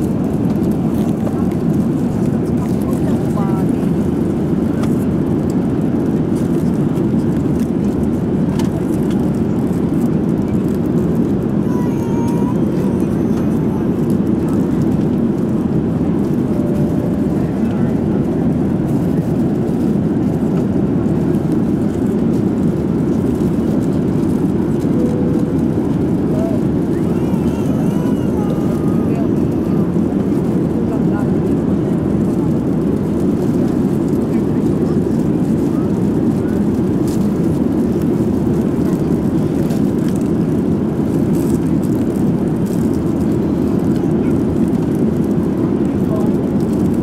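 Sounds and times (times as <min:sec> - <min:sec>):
airliner cabin engine rumble: 0:00.0 - 0:47.0.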